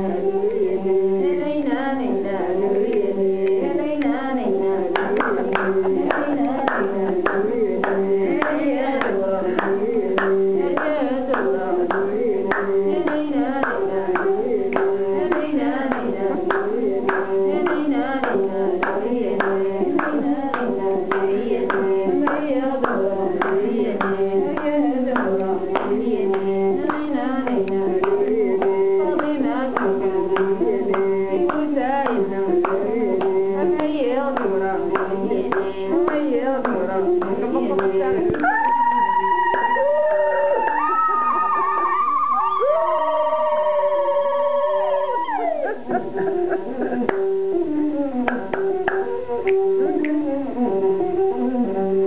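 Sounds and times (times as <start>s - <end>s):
voices singing a melody: 0.0s - 52.0s
rhythmic hand-clapping: 1.6s - 50.7s.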